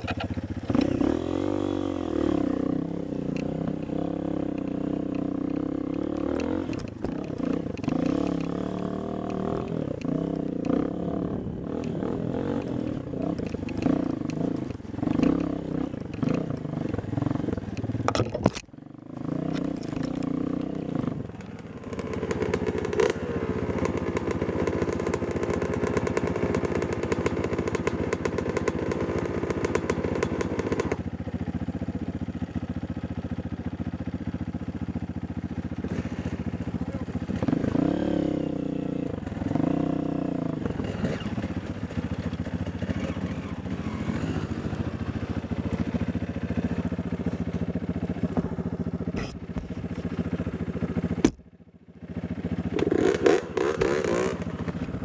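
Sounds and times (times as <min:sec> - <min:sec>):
dirt bike engines revving: 0:00.0 - 0:31.0, 0:35.8 - 0:51.4, 0:52.7 - 0:55.0.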